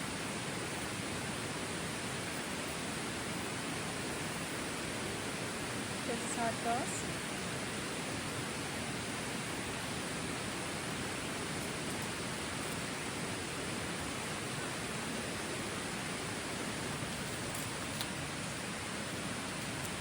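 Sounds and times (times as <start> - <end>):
rushing water hiss: 0.0 - 20.0.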